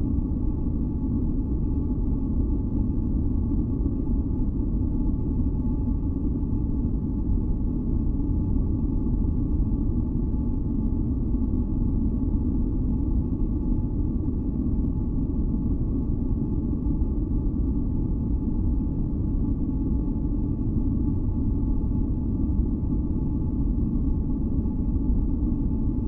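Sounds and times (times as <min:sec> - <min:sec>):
faint humming tones: 0:00.0 - 0:26.0.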